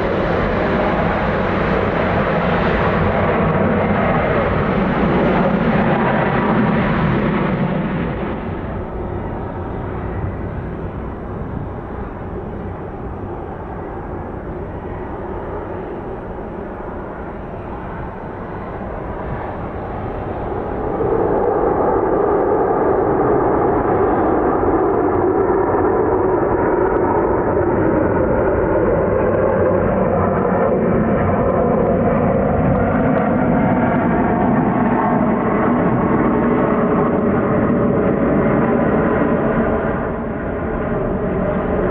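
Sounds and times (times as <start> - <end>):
faint engine whine: 0.0 - 41.9
jet engines running: 0.0 - 41.9.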